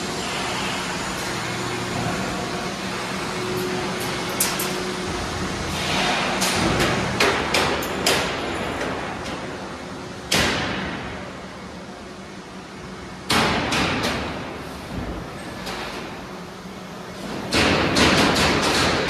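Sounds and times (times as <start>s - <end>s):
workshop machinery hum: 0.0s - 19.0s.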